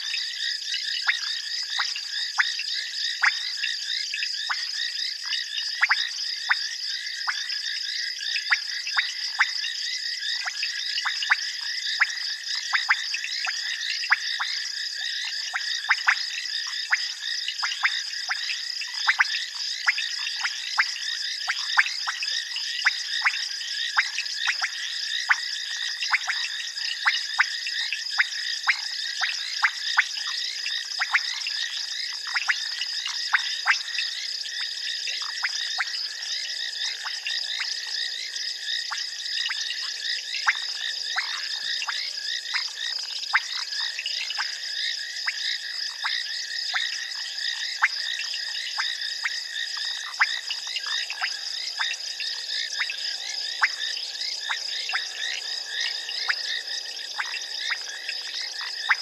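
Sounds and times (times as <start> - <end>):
frogs clicking calls: 0.0 - 59.0.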